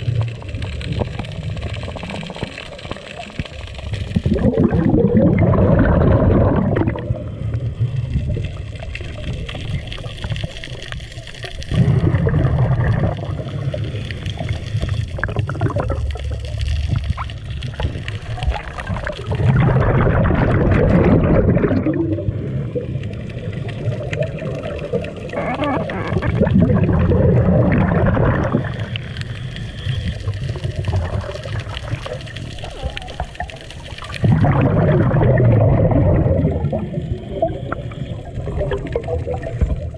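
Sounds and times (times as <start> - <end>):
dull underwater rumble: 0.0 - 39.9
exhaled bubbles gurgling underwater: 0.0 - 39.9.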